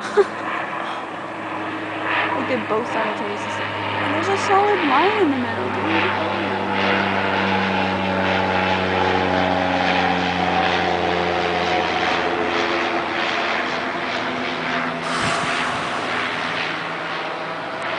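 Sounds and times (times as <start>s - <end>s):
propeller aircraft engine: 0.0s - 17.9s.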